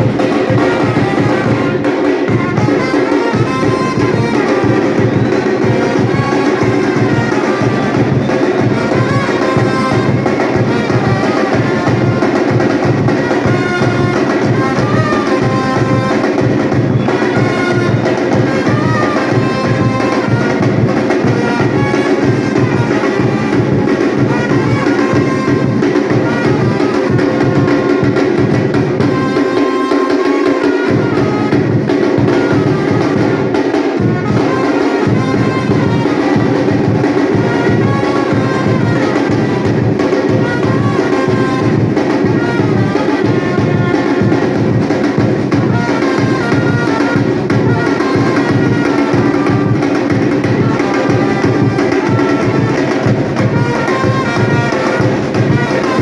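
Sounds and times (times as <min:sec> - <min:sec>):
drum ensemble playing: 0:00.0 - 0:56.0.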